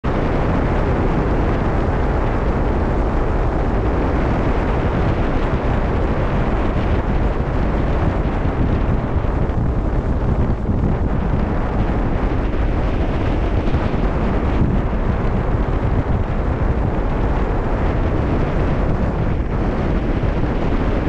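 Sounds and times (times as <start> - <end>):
wind blowing over microphone: 0.0 - 21.0.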